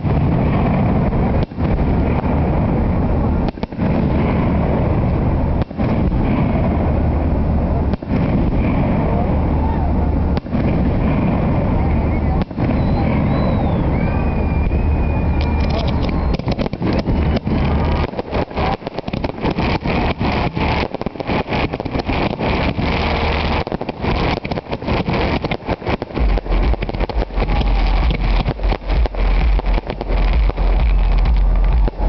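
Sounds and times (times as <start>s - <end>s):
fireworks popping and crackling: 0.0s - 32.0s
low rumble: 0.0s - 32.0s.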